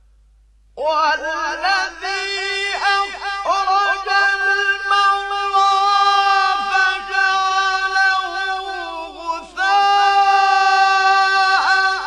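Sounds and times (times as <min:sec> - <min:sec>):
man reciting melodically: 0:00.8 - 0:12.0.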